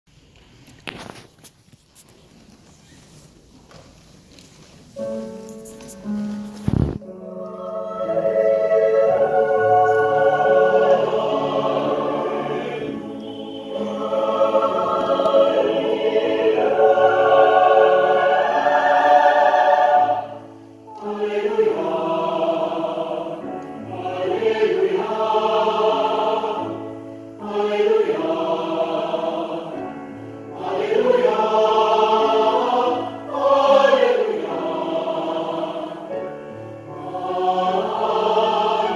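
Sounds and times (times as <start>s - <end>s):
mixed choir singing: 7.0s - 38.9s.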